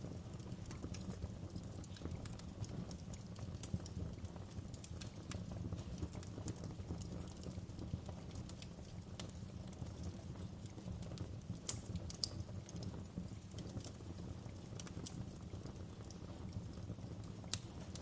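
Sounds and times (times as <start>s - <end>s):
fire crackles and pops: 0.0s - 18.0s
wood fire rumbling: 0.0s - 18.0s.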